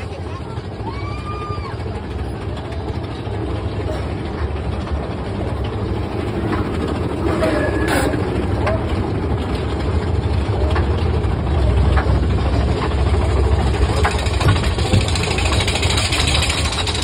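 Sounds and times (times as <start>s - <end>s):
roller coaster clacks and rattles: 0.0s - 17.0s
roller coaster rumbling on track: 0.0s - 17.0s.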